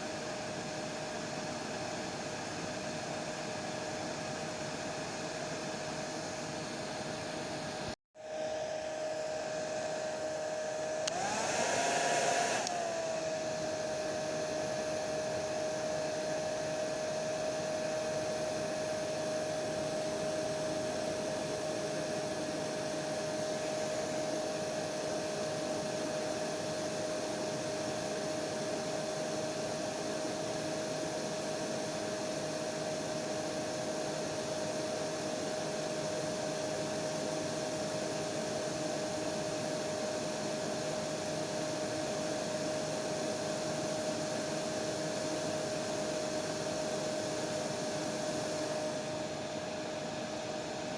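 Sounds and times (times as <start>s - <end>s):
hair dryer running: 0.0s - 50.9s.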